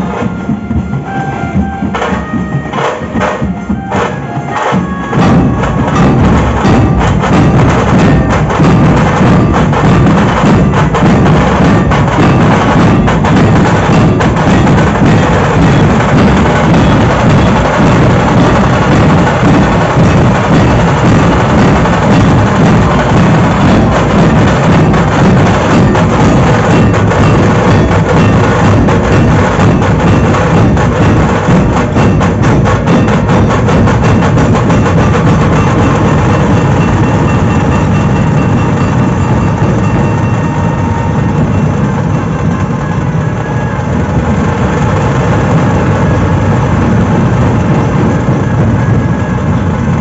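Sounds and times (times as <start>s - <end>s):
barrel drums beaten in fast rhythm: 0.0s - 50.0s.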